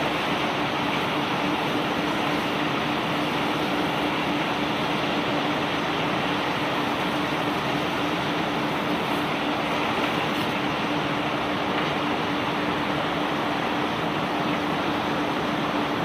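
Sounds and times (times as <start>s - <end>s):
conveyor belt rumbling: 0.0s - 16.0s
steady hum: 0.0s - 16.0s.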